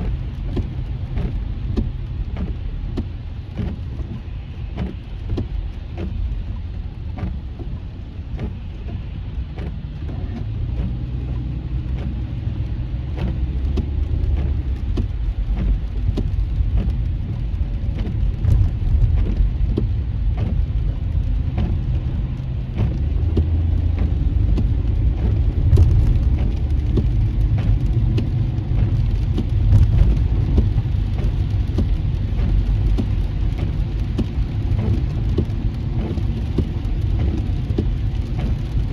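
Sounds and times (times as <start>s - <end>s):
raindrops tapping on windshield: 0.0s - 38.9s
road and tyre noise: 0.0s - 38.9s.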